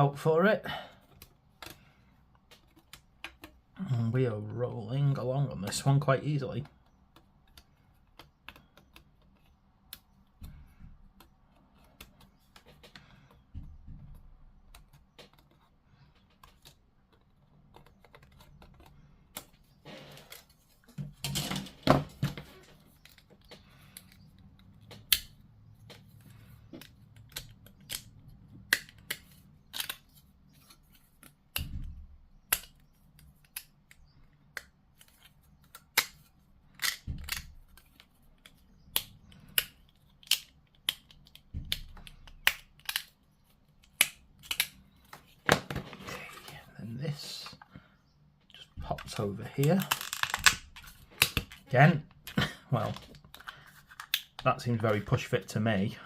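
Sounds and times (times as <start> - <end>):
plastic parts clicking: 1.0 - 3.6, 6.6 - 46.5, 48.6 - 54.5.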